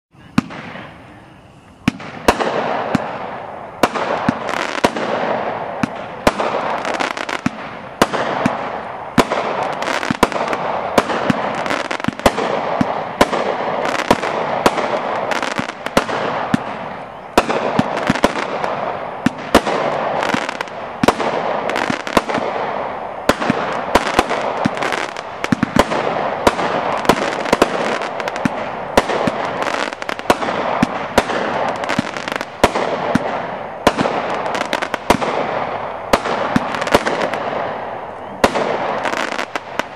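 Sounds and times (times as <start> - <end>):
firework shots: 0.2 - 39.9.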